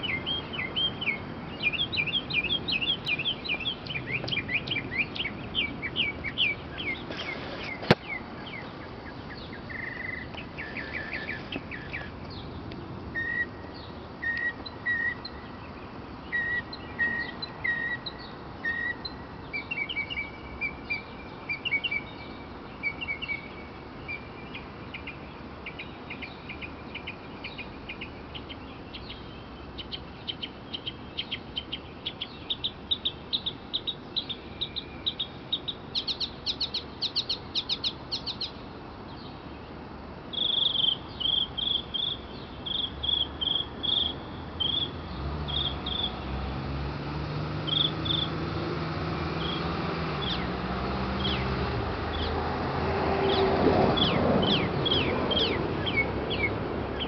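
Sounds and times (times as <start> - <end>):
mockingbird singing: 0.0 - 46.5, 47.6 - 48.5, 49.3 - 52.5, 53.2 - 57.0.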